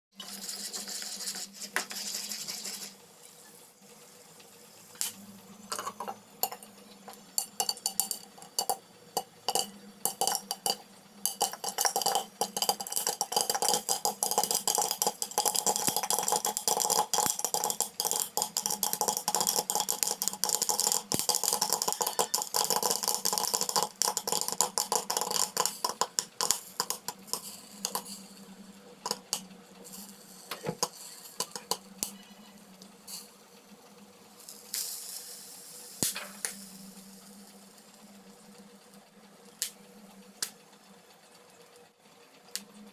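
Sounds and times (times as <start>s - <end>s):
popcorn popping: 0.2s - 3.1s, 4.4s - 33.4s, 34.3s - 38.8s, 39.4s - 40.7s.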